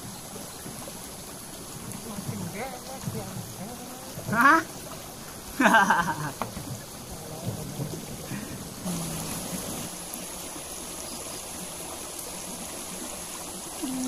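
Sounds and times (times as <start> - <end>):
creek water trickling over rocks: 0.0 - 14.0.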